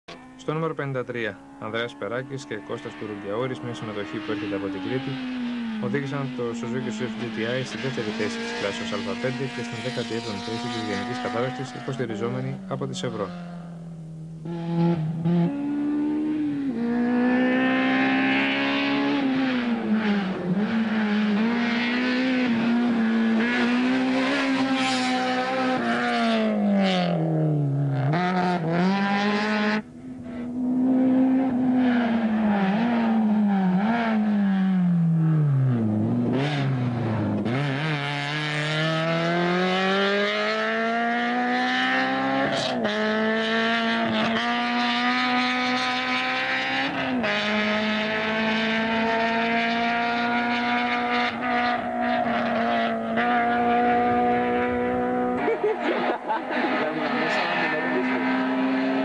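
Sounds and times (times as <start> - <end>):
rally car engine revving: 0.1 - 59.0.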